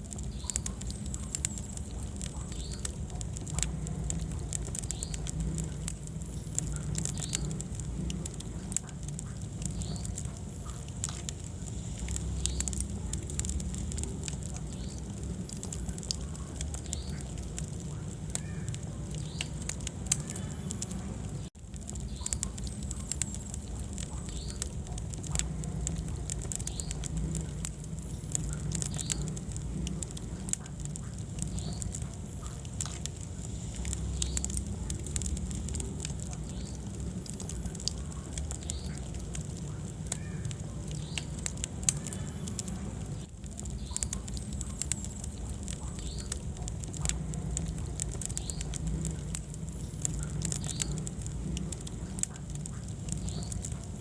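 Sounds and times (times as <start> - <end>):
low rumble: 0.0 - 54.0
wood fire crackling and popping: 0.0 - 54.0.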